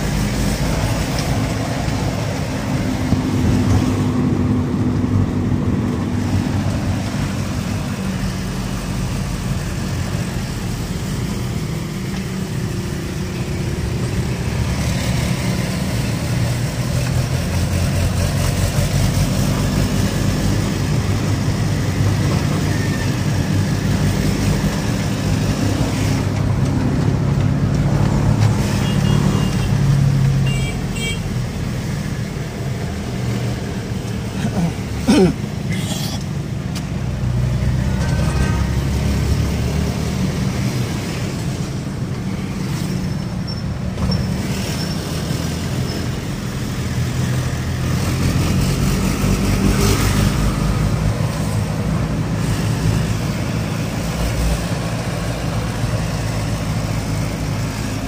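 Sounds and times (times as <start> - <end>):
tyre and road noise: 0.0 - 58.0.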